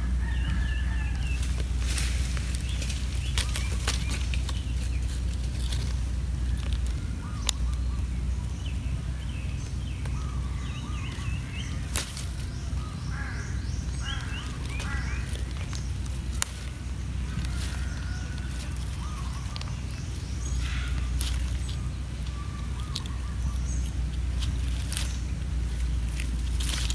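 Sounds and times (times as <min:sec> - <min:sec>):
low steady rumble: 0:00.0 - 0:26.9.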